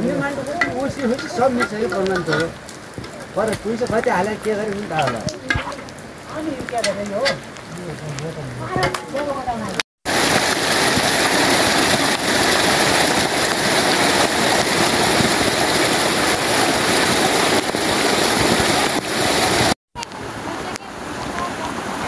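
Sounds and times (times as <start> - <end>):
loud rushing water: 0.0 - 22.0.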